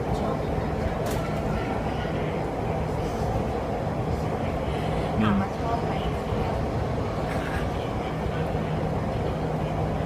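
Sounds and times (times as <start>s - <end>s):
metro train running rumble: 0.0s - 10.0s.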